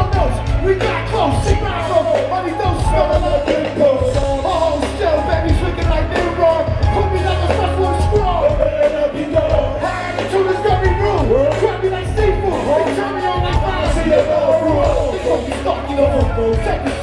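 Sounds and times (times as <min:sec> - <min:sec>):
heavy bass beat: 0:00.0 - 0:17.0
hip-hop music over loudspeakers: 0:00.0 - 0:17.0.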